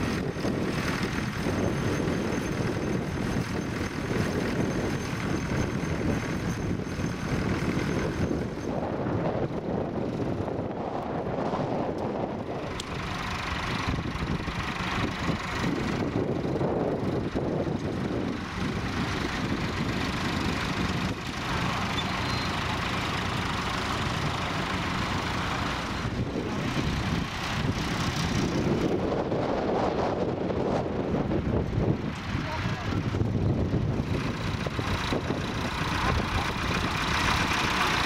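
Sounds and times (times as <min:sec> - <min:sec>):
diesel tractor engines under load: 0:00.0 - 0:38.0.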